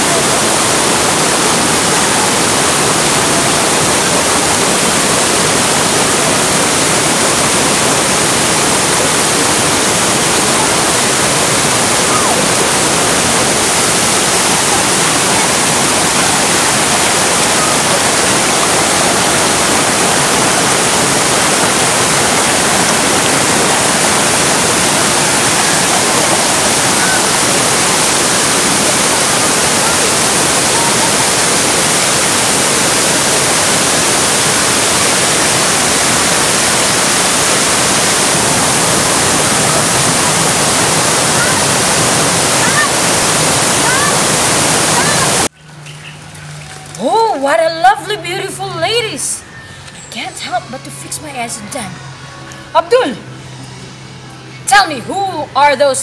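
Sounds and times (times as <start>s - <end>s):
waterfall roaring: 0.0s - 55.8s.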